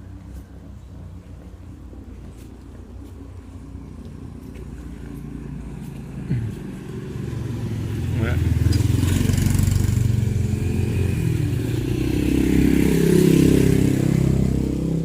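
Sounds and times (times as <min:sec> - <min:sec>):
vehicle engine approaching: 0:00.0 - 0:15.0.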